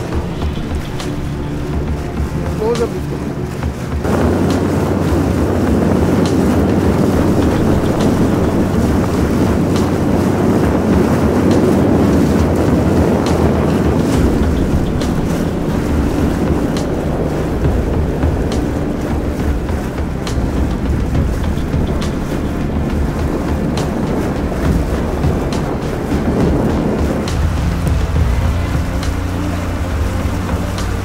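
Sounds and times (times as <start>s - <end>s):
outboard motor running: 0.0s - 31.0s
wind buffeting microphone: 0.0s - 31.0s.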